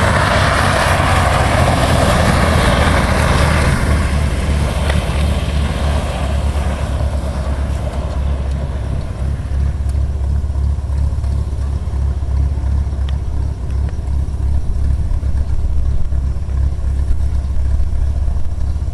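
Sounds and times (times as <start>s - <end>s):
propeller plane engine droning: 0.0s - 18.9s.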